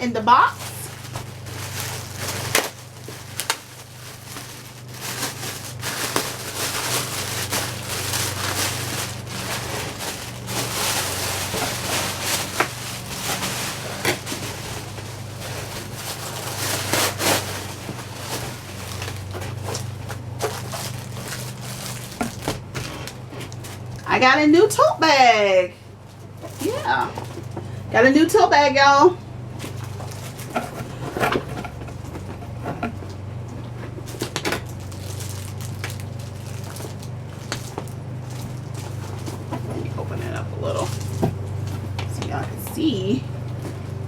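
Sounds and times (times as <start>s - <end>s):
packaging crinkling: 0.3s - 24.1s, 26.0s - 27.8s, 29.6s - 32.6s, 33.9s - 41.9s.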